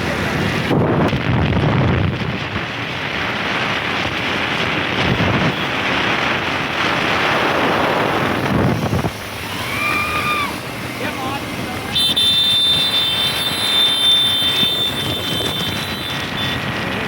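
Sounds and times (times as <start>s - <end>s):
road noise: 0.0s - 17.0s
wind buffeting microphone: 0.0s - 17.0s
scooter engine: 1.8s - 17.0s.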